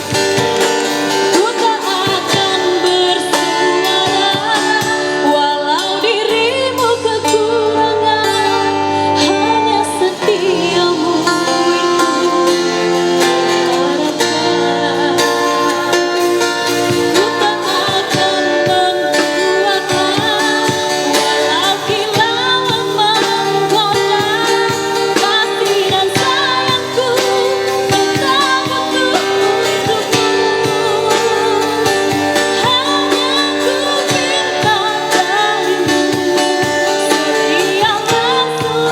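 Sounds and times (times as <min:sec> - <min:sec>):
strummed string instruments: 0:00.0 - 0:38.9
woman singing: 0:00.0 - 0:38.9
bass playing steady rhythm: 0:06.0 - 0:38.9.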